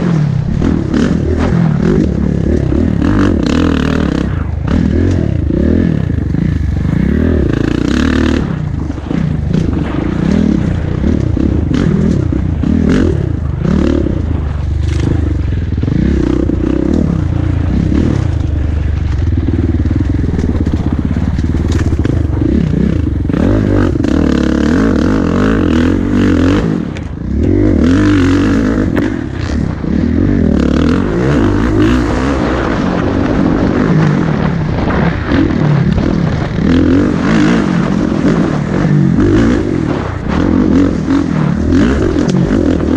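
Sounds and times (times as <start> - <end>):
motocross bike engine revving: 0.0 - 42.9
wind rushing on microphone: 0.0 - 42.9.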